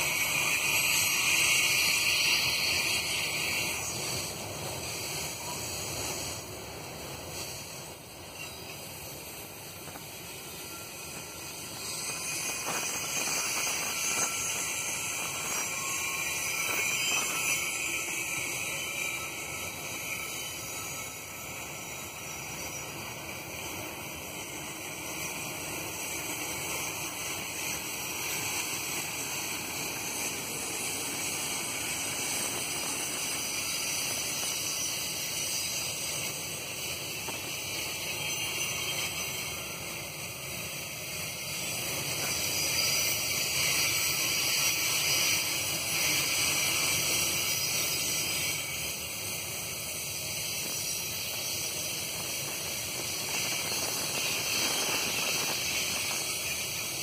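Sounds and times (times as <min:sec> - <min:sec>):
freight train wheels hissing on rail: 0:00.0 - 0:57.0.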